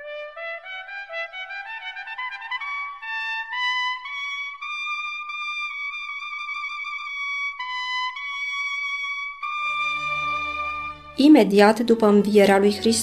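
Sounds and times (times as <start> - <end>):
instrumental melody line: 0.0 - 13.0.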